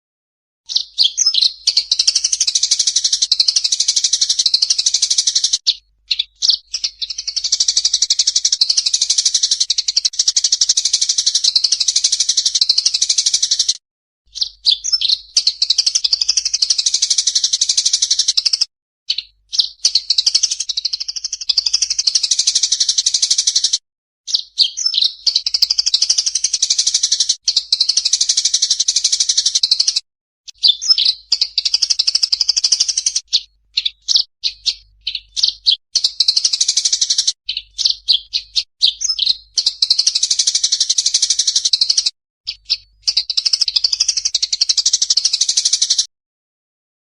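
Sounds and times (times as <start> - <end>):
songbirds chirping and trilling: 0.7 - 46.0.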